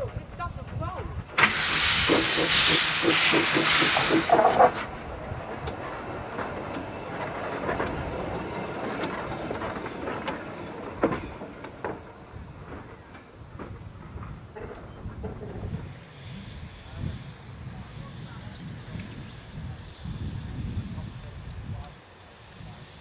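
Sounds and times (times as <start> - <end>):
steam locomotive running: 0.0 - 23.0
loud steam hiss: 1.2 - 13.0, 15.7 - 23.0.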